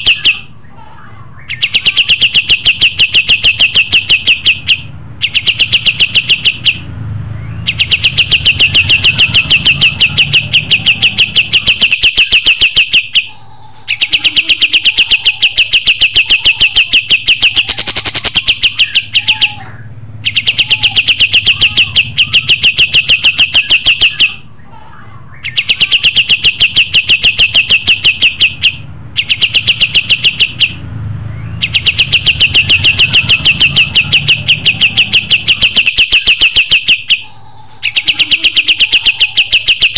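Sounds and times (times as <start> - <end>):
bird singing loud trills: 0.0 - 0.8, 1.4 - 39.9.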